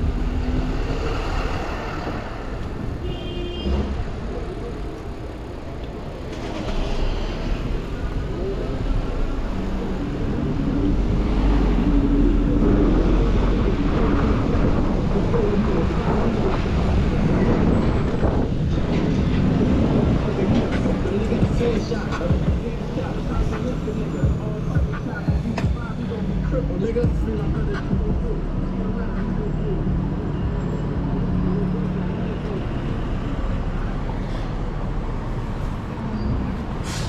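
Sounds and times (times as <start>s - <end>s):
rumble of passing vehicles: 0.0s - 37.0s.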